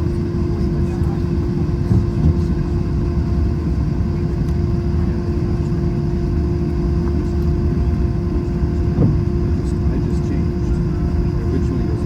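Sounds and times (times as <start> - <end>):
airplane cabin low rumble: 0.0 - 12.0
mid-pitched hum: 0.0 - 12.0.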